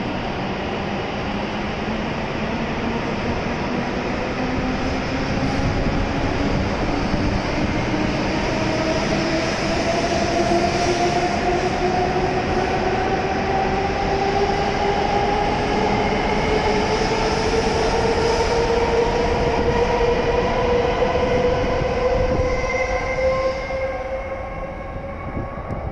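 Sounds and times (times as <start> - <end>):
rumble of passing train cars: 0.0 - 25.9.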